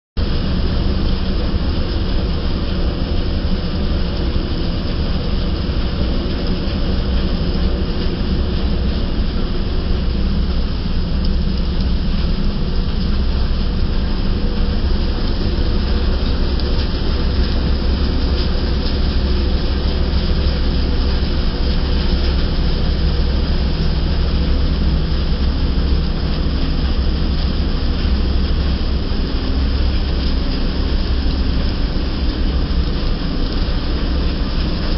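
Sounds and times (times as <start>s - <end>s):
wheat thresher running: 0.2s - 34.9s.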